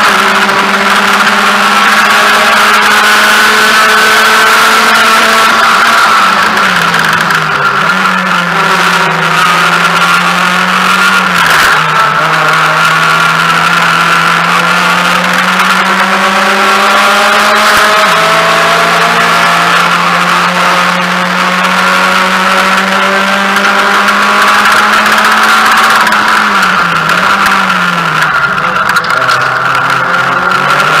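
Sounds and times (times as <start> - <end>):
car engine at high revs: 0.0 - 31.0.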